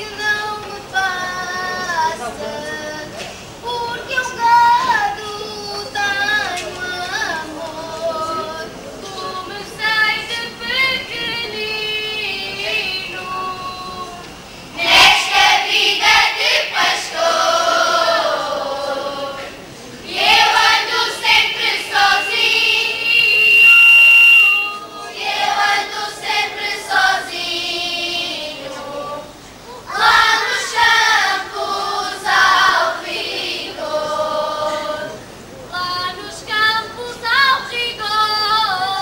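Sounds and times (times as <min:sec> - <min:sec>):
children's choir singing unaccompanied: 0:00.0 - 0:39.0.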